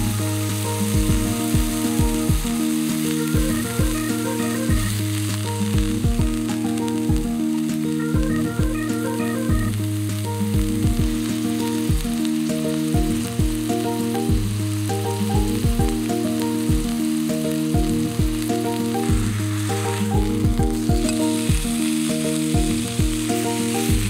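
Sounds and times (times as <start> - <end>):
background music with beat: 0.0 - 24.0
steak sizzling in oil: 0.0 - 24.0.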